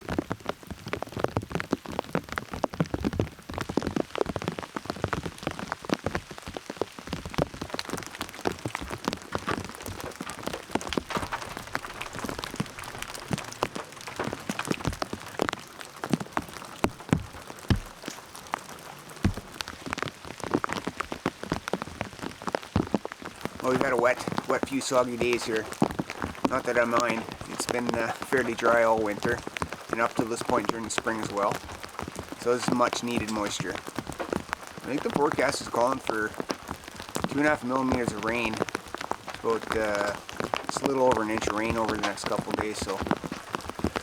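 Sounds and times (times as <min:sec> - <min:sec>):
rain drops on hard surface: 0:00.0 - 0:44.0
rain hiss: 0:00.0 - 0:44.0.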